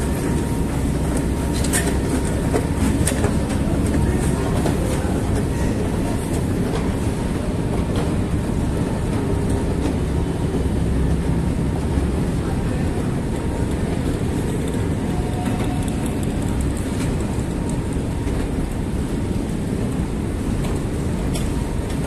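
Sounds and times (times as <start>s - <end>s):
escalator rumble: 0.0s - 22.0s.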